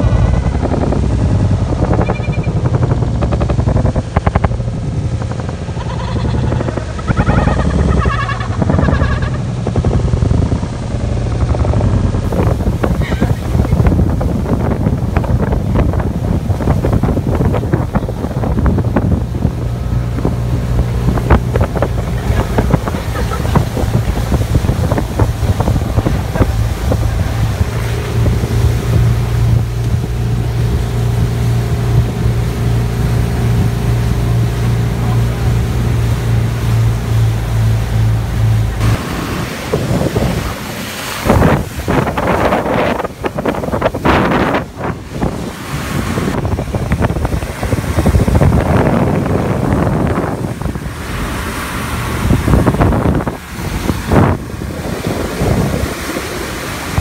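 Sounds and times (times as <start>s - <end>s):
boat motor running: 0.0s - 57.0s
wake water rushing: 0.0s - 57.0s
wind buffeting microphone: 0.0s - 57.0s.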